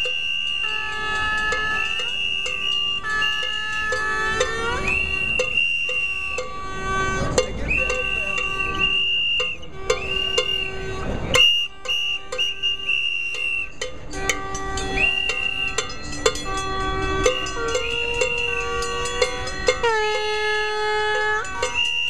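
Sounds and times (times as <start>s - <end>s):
noisemakers blowing high tones: 0.0s - 22.0s.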